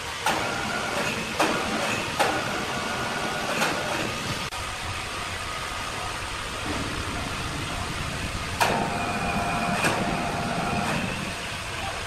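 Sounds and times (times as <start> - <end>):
sawmill machinery noise: 0.0 - 12.0.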